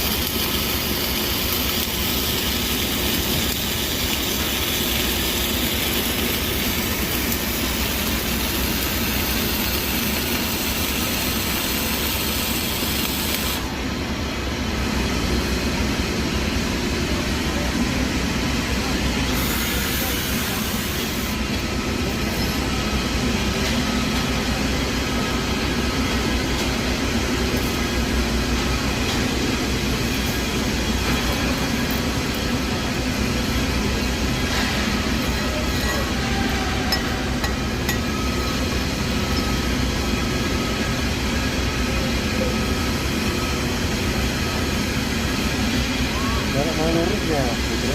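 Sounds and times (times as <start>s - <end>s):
arc welding crackling hiss: 0.0s - 13.9s, 19.0s - 47.9s.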